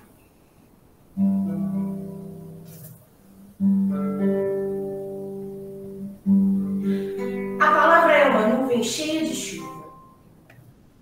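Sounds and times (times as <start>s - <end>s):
acoustic guitar chords strummed: 1.1s - 10.5s.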